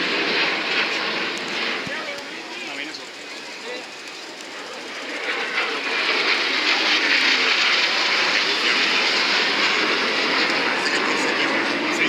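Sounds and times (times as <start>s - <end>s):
fighter jet engine roar: 0.0s - 12.0s.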